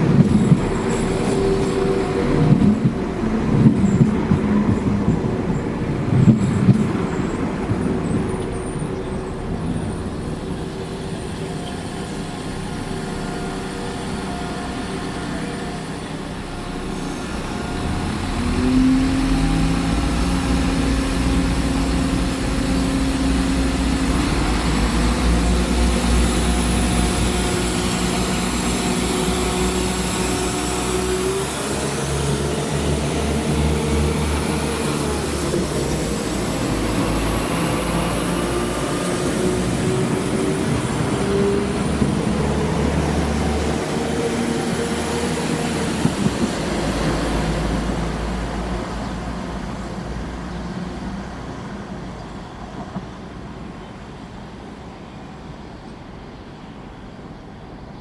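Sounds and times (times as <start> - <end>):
diesel engine pulling out: 0.0 - 54.8
diesel train rumbling: 0.0 - 58.0.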